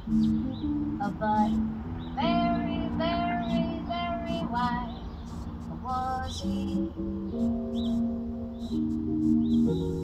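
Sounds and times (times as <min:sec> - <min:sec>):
electronic keyboard chords: 0:00.0 - 0:10.0.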